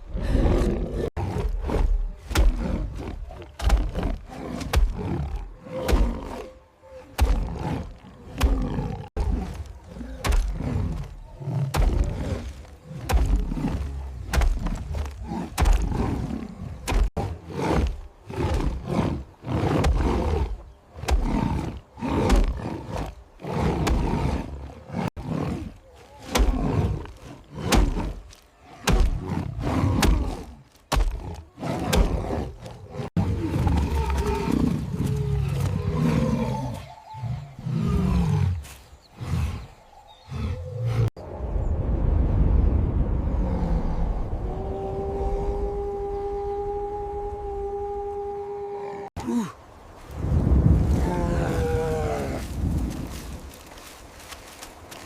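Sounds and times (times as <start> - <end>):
big cats roaring and snarling: 0.0 - 41.2, 43.2 - 53.9.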